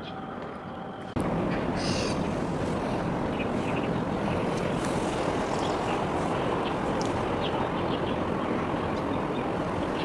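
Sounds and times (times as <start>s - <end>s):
low harbour rumble: 0.0s - 10.0s.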